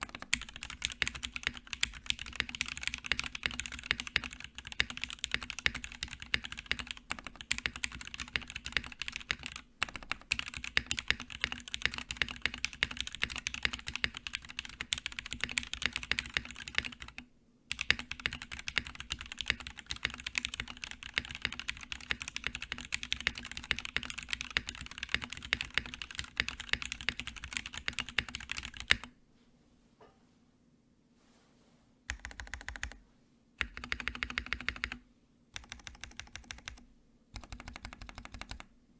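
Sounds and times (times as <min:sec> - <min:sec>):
typing on mechanical keyboard: 0:00.0 - 0:29.1, 0:32.1 - 0:33.0, 0:33.6 - 0:35.0, 0:35.6 - 0:38.7.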